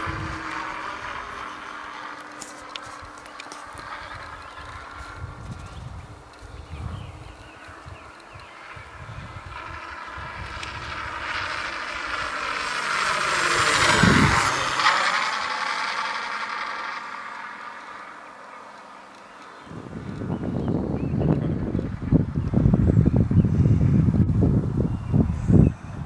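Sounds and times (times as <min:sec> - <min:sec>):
model plane engine flying past: 0:00.0 - 0:26.0.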